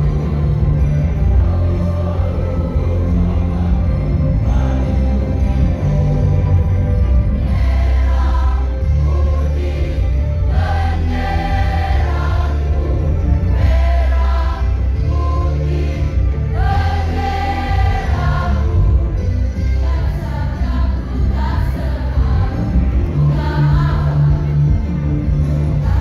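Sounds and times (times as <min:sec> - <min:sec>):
choir singing: 0:00.0 - 0:06.4, 0:07.2 - 0:24.8, 0:25.4 - 0:26.0
heavy steady bass: 0:00.0 - 0:26.0.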